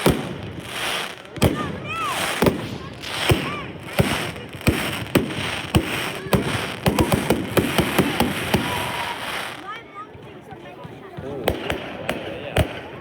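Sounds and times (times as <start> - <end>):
crackling firework pops: 0.0 - 10.2, 10.8 - 13.0
fireworks bangs: 0.0 - 13.0.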